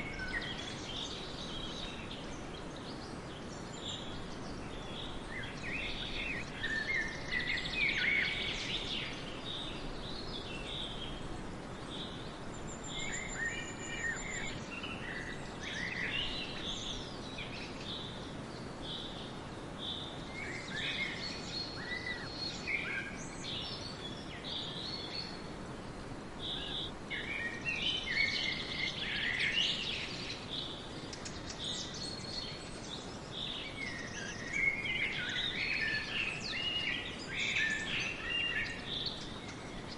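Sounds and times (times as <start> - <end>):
small birds chirping: 0.0 - 39.9
steady background noise: 0.0 - 39.9.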